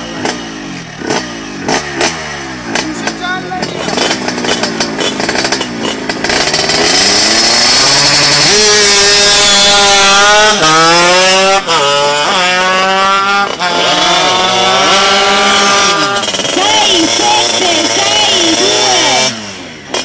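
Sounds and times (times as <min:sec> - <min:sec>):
scooter engine at full throttle: 0:00.0 - 0:20.0.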